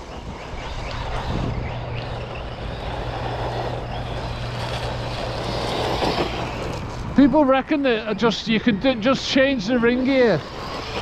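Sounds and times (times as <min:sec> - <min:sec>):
drivetrain noise: 0:00.0 - 0:11.0
electric motor whining: 0:00.0 - 0:11.0.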